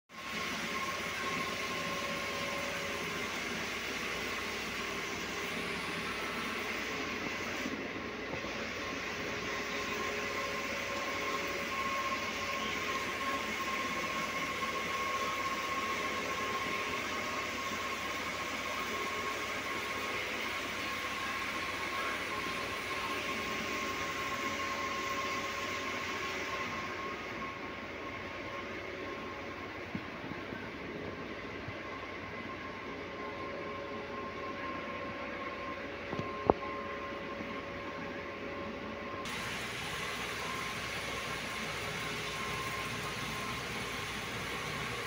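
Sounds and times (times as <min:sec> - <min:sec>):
mechanical whirring with high hum: 0:00.1 - 0:45.0.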